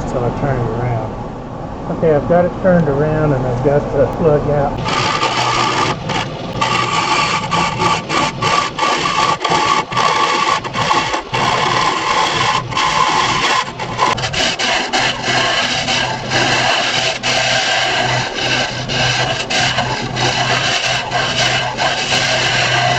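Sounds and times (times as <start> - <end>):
lathe motor whine: 2.9 - 22.9
tool scraping spinning wood: 3.7 - 22.9.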